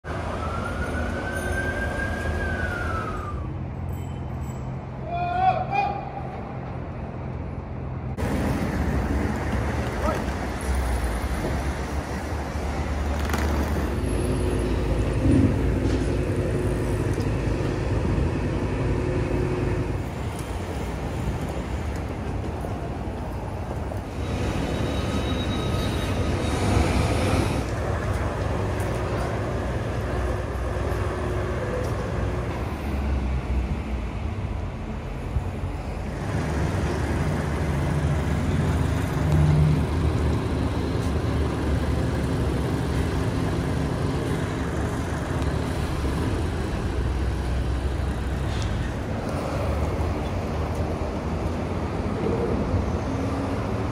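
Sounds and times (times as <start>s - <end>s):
rumble of passing cars and buses: 0.0s - 53.9s.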